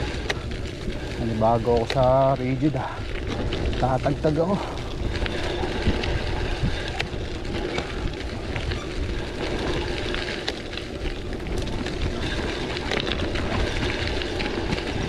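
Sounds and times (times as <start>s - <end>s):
bike frame rattles and clicks: 0.0s - 15.0s
tyres crunching on loose stones: 0.0s - 15.0s
wind rumbling on microphone: 0.0s - 15.0s.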